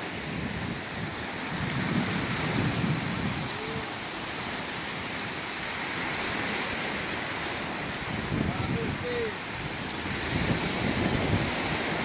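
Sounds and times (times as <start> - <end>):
sea surf washing onto beach: 0.0 - 12.0.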